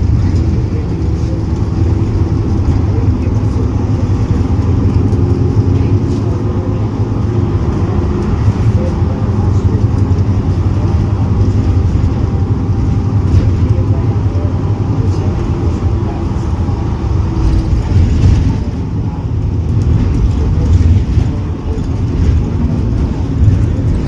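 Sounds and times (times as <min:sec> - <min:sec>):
bus diesel engine droning: 0:00.0 - 0:24.0.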